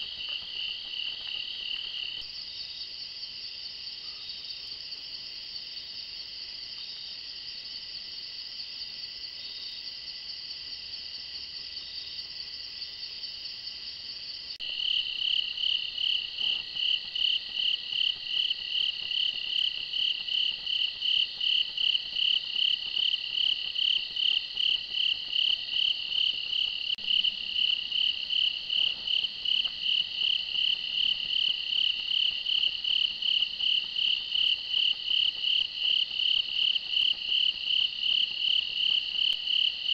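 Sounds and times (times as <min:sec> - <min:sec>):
crickets trilling: 0:00.0 - 0:39.9
rhythmic cricket chirping: 0:00.0 - 0:39.9.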